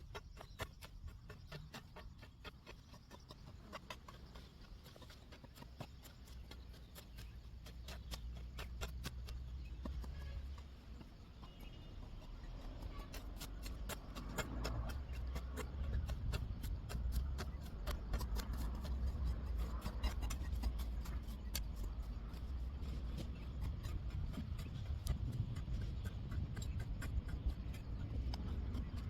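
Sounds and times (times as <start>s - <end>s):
hand tool striking weeds and soil: 0.0s - 29.0s.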